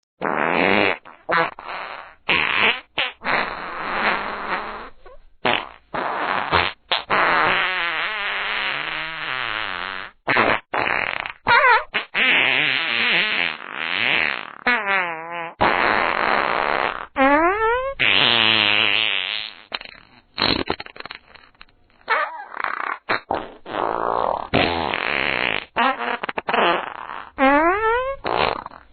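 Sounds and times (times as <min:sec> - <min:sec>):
fart sound effects: 0:00.2 - 0:28.9.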